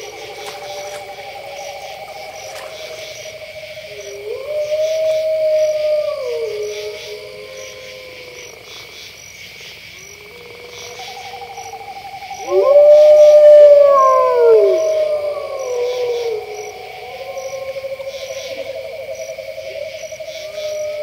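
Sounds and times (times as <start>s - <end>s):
wolves howling: 0.0s - 9.0s, 10.1s - 21.0s
crickets chirping: 0.0s - 21.0s.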